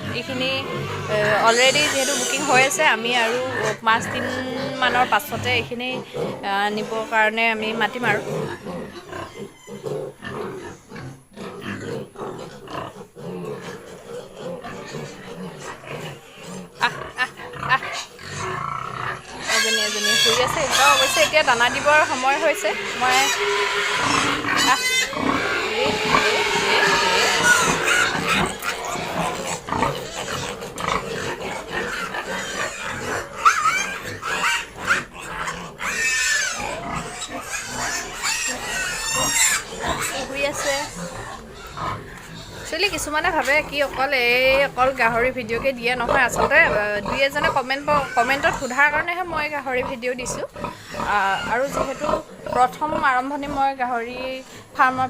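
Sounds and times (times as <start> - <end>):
piglets grunting: 0.0 - 55.0.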